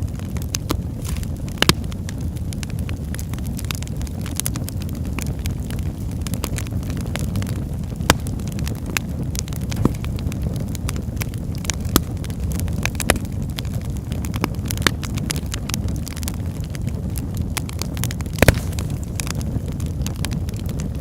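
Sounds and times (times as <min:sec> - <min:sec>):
campfire pops and snaps: 0:00.0 - 0:21.0
low rumble of burning: 0:00.0 - 0:21.0.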